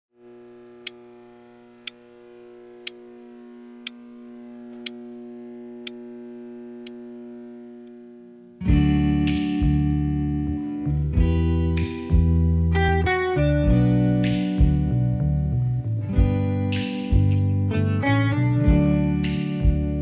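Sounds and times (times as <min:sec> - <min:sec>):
held synthesizer chord: 0:00.2 - 0:20.0.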